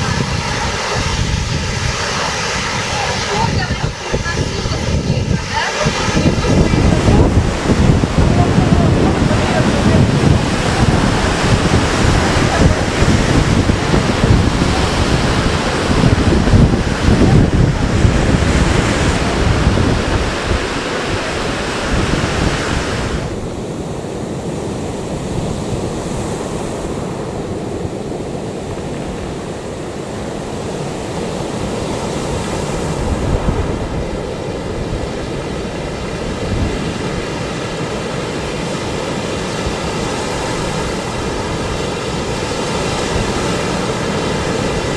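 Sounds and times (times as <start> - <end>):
storm surf breaking: 0.0 - 44.9
wind buffeting microphone: 0.0 - 44.9.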